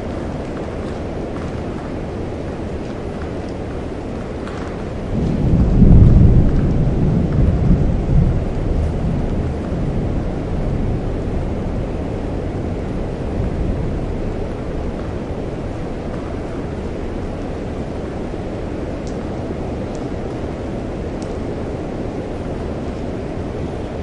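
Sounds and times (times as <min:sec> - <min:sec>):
steady rain: 0:00.0 - 0:24.0
thunder rumbling: 0:00.0 - 0:24.0.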